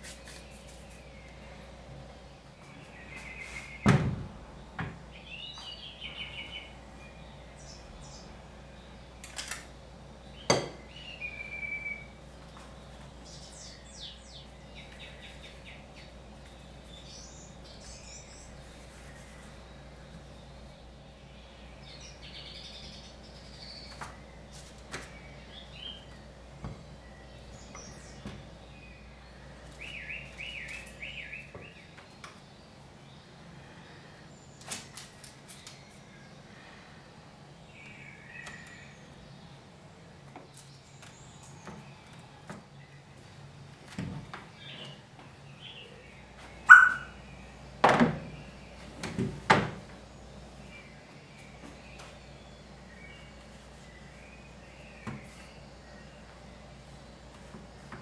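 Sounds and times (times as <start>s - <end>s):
small birds chirping: 0.0s - 49.2s, 49.8s - 58.0s.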